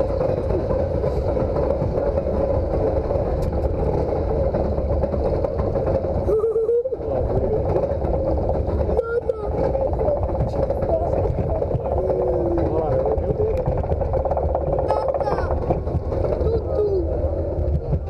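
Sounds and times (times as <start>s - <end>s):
coaster wheels rumbling on track: 0.0s - 18.0s
constant hum: 0.0s - 18.0s.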